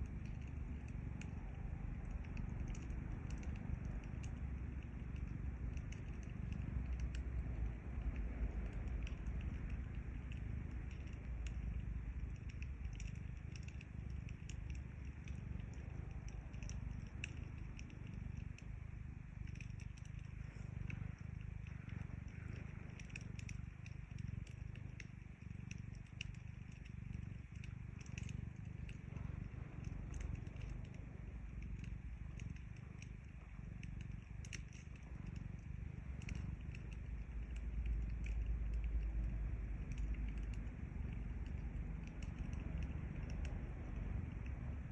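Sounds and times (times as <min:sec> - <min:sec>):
cat purring: 0:00.0 - 0:44.9
wood fire crackling: 0:00.0 - 0:44.9.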